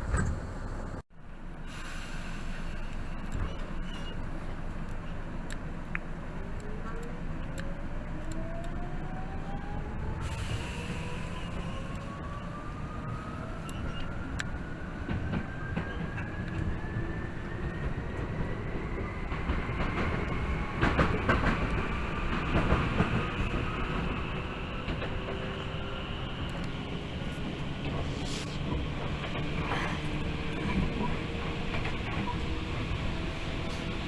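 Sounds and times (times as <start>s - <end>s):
train motor and gear whine: 0.0s - 34.0s
train rumble: 0.0s - 34.0s.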